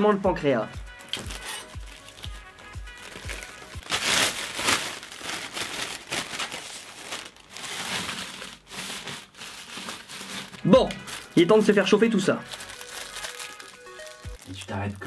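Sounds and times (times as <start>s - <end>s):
plastic bag crinkling: 1.1s - 15.0s.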